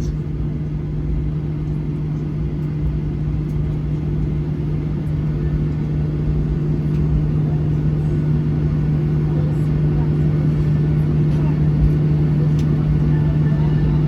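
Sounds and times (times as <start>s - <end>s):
aircraft cabin rumble and hum: 0.0s - 14.0s.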